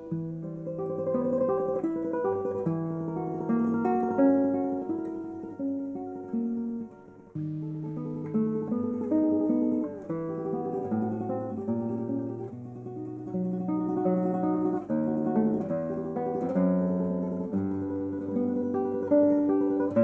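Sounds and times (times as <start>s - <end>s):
classical guitar playing: 0.0s - 20.0s.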